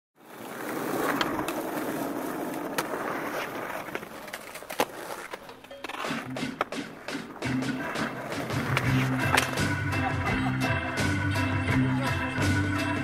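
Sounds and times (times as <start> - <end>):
skateboard wheels rolling on asphalt: 0.2 - 11.6
skateboard clacking: 0.2 - 12.6.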